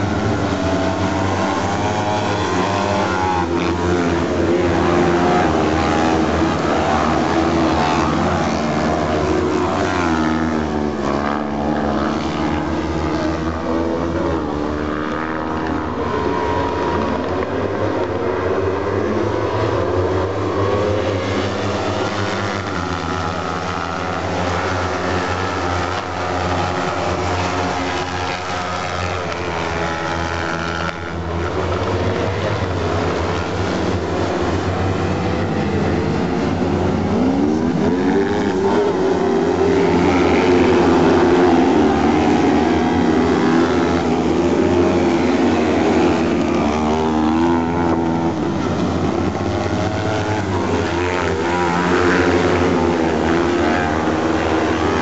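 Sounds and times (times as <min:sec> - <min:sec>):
racing buggy engines revving: 0:00.0 - 0:55.0.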